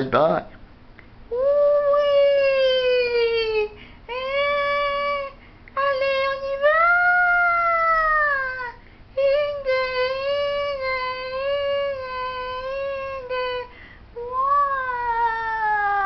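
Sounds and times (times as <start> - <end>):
high-pitched voice singing: 1.3 - 16.0.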